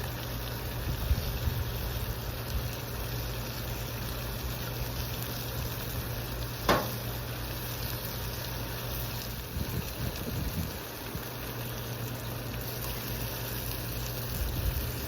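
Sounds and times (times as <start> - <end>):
chicken sizzling on a griddle: 0.0 - 15.0
gas burner noise: 0.0 - 15.0.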